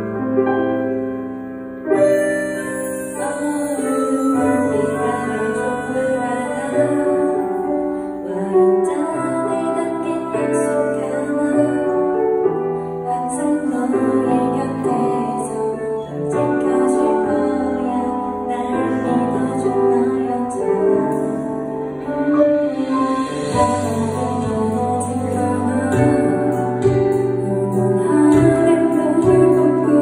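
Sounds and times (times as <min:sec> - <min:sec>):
piano accompaniment: 0:00.0 - 0:30.0
woman singing pop ballad: 0:02.0 - 0:30.0.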